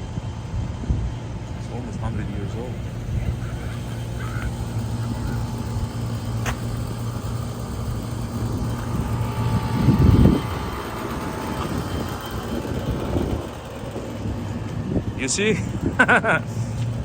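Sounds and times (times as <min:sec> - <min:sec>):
vehicle hum and rumble: 0:00.0 - 0:17.0.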